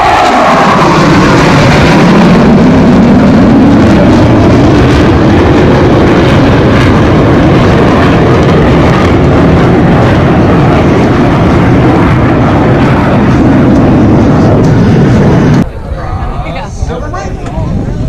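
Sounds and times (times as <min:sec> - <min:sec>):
jets flying overhead: 0:00.0 - 0:18.0.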